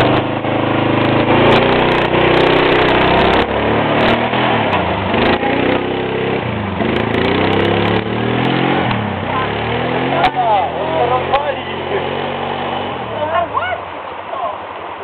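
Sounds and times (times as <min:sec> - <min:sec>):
quad bike engine revving: 0:00.0 - 0:13.6.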